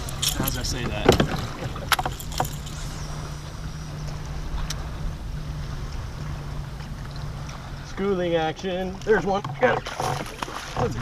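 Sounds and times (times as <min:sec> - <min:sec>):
steady low hum: 0:00.0 - 0:11.0
water rushing along hull: 0:00.0 - 0:11.0.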